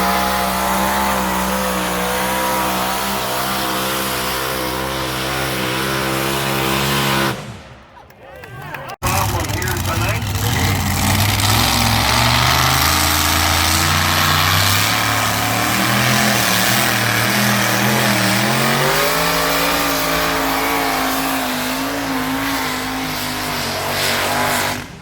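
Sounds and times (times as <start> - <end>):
tractor engine running hard: 0.0 - 7.7, 9.0 - 25.0.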